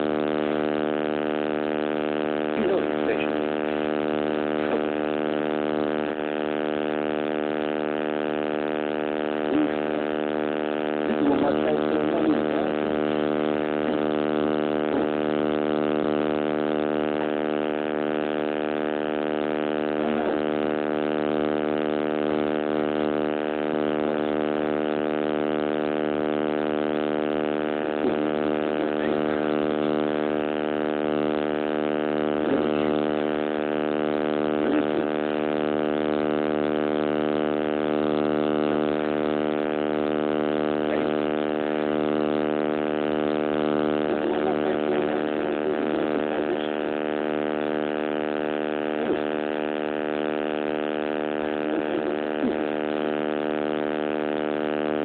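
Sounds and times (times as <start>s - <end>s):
loud electrical buzz: 0.0s - 55.0s.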